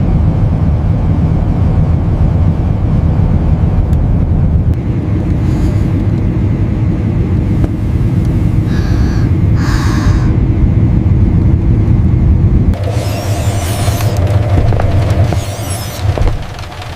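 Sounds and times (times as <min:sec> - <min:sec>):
airplane rumbling in flight: 0:00.0 - 0:16.9.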